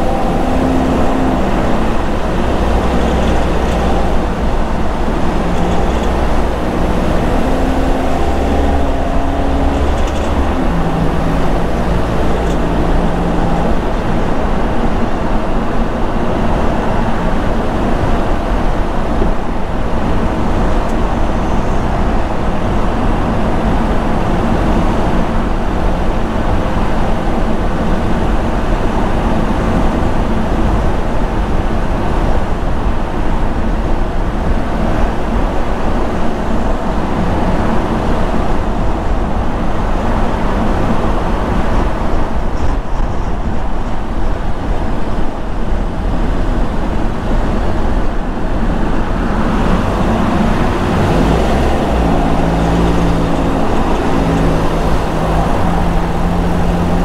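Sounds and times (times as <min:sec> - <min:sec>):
low engine hum: 0:00.0 - 0:57.0
tyre and road noise: 0:00.0 - 0:57.0.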